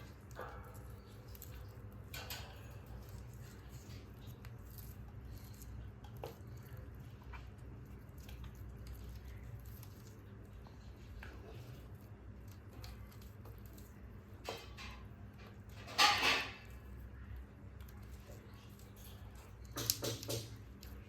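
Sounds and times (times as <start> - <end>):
low room hum: 0.0 - 21.0
soft clicks and scratches: 0.0 - 21.0.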